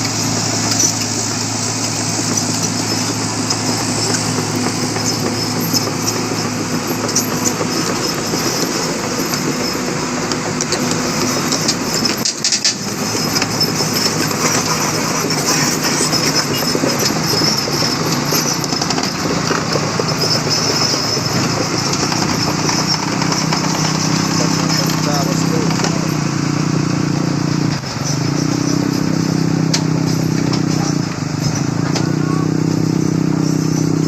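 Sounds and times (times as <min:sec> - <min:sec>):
vehicle engines running: 0:00.0 - 0:34.0.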